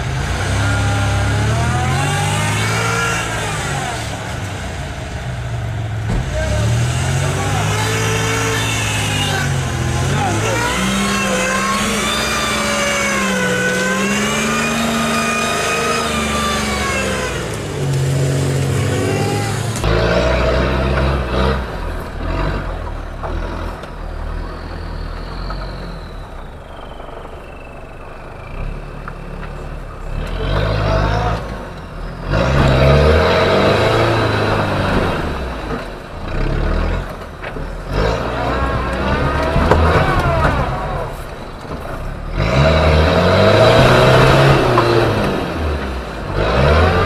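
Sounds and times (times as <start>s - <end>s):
off-road truck engine revving: 0.0s - 47.0s
vehicle engine driving: 0.0s - 47.0s.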